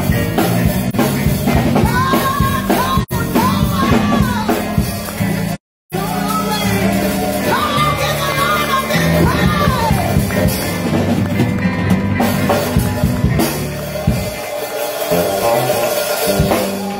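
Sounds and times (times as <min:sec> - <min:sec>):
gospel band with drums and bass: 0:00.0 - 0:16.9.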